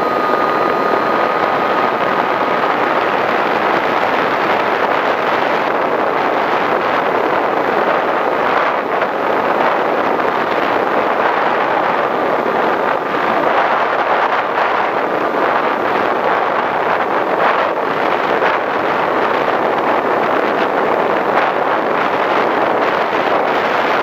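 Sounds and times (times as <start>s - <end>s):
electric motor and propeller: 0.0s - 24.0s
wind rushing over microphone: 0.0s - 24.0s.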